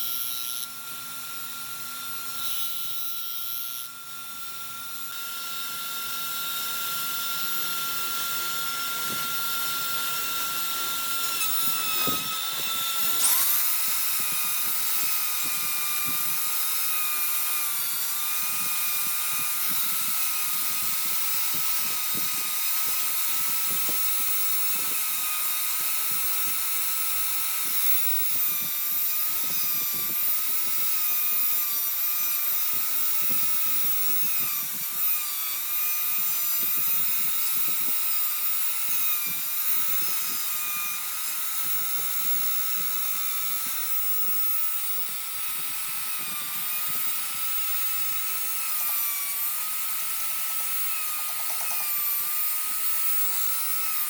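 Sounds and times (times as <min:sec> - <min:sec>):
high-pitched power tool whine: 0:00.0 - 0:54.0.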